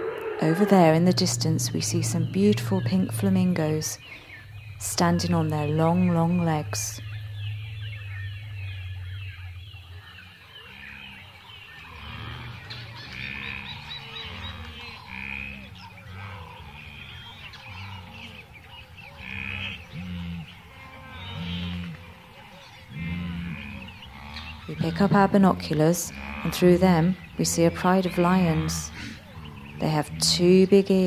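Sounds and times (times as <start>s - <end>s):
flamingos honking: 0.0s - 31.0s.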